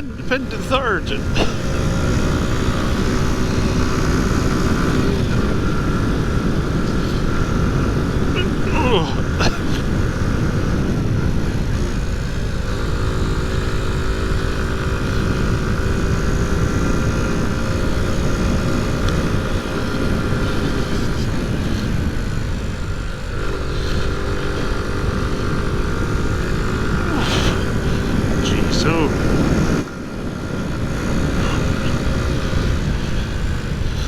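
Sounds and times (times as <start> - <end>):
motorcycle engine at high revs: 0.0 - 34.0
wind rush on microphone: 0.0 - 34.0.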